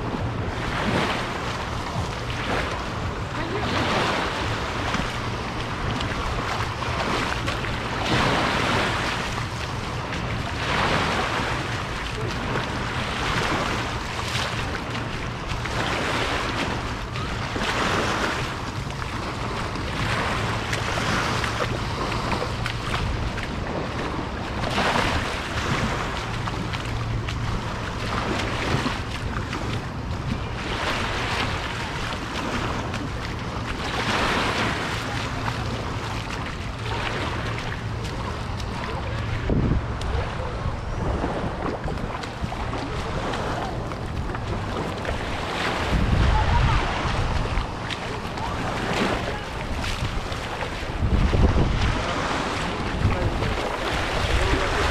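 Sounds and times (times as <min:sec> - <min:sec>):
sea waves breaking: 0:00.0 - 0:54.9
wind on microphone: 0:00.0 - 0:54.9.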